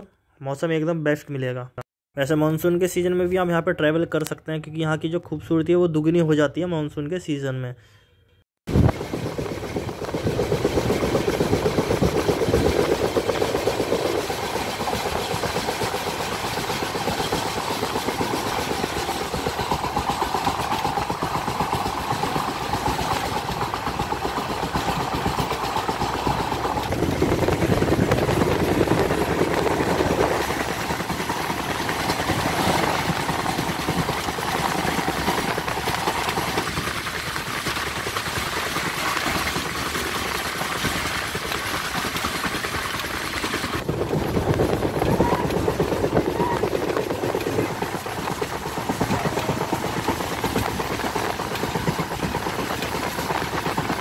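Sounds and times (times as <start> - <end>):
train wheels rumbling and rattling: 8.9 - 38.5, 39.4 - 54.0.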